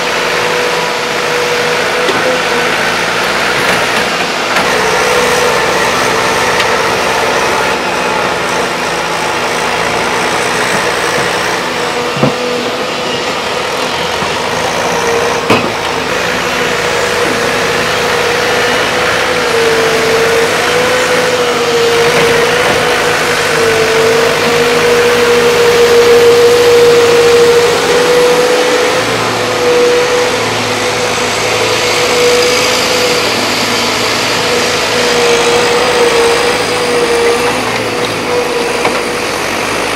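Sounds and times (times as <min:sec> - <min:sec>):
excavator diesel engines running: 0:00.0 - 0:39.9
steady machine whine: 0:00.0 - 0:39.9.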